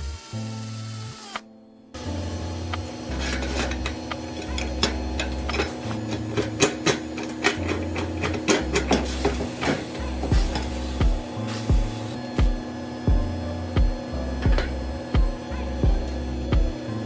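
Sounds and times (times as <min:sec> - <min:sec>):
background music with bass: 0:02.0 - 0:17.0.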